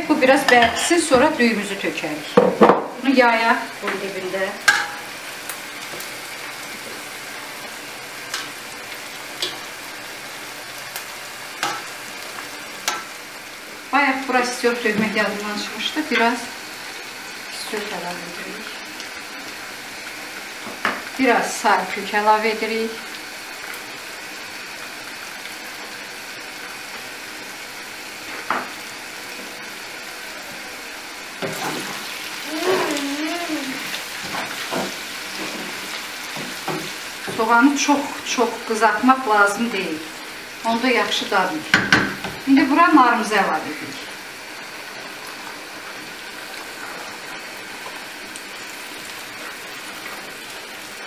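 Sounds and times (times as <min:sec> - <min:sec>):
batter sizzling in hot oil: 0:00.0 - 0:51.0.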